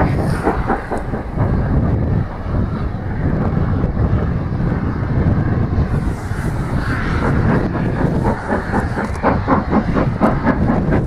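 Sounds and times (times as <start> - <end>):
distant steam locomotive exhaust beats: 0.0 - 11.0
wind buffeting microphone: 0.0 - 11.0.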